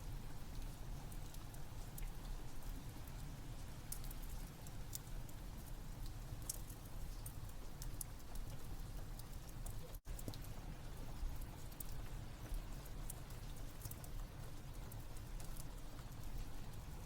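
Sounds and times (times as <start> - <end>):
steady rain: 0.0 - 17.0
wood fire crackling and popping: 0.0 - 17.0.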